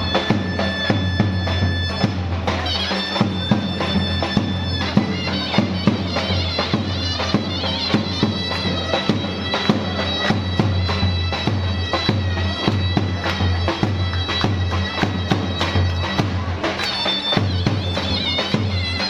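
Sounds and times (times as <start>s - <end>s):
shrill reed wind instrument melody: 0.0s - 19.0s
steady drum beat: 0.0s - 19.0s.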